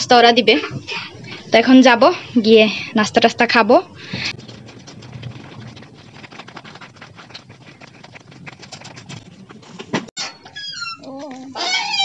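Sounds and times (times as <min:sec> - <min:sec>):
dense crackling patter: 0:00.0 - 0:10.2.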